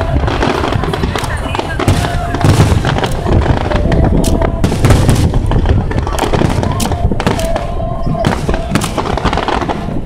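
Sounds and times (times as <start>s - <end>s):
fireworks bursting with sharp bangs: 0.0s - 10.0s
low rumble: 0.0s - 10.0s.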